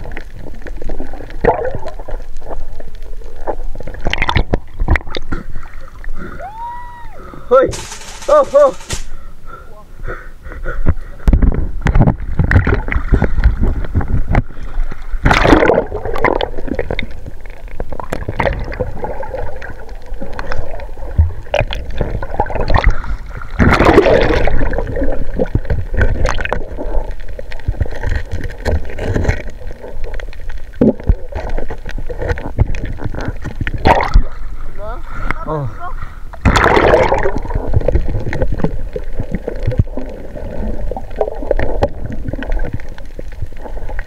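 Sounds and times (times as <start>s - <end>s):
water sloshing and gurgling: 0.0s - 6.4s, 10.7s - 44.0s.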